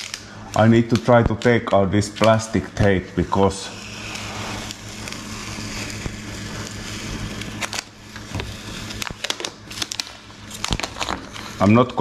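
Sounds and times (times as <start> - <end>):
masking tape being peeled: 0.0 - 1.6, 3.7 - 12.0
steady low hum: 0.0 - 12.0
tape crackling: 0.0 - 12.0.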